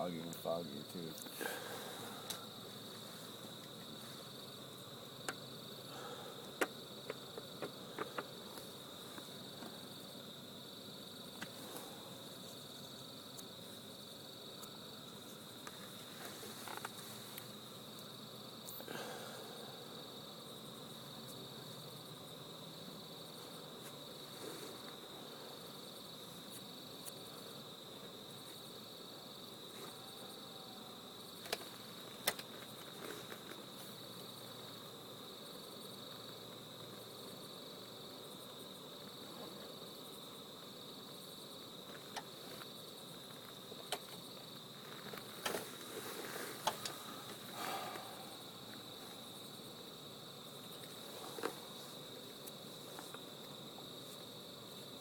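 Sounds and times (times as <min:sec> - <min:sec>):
night insects chirring: 0:00.0 - 0:55.0.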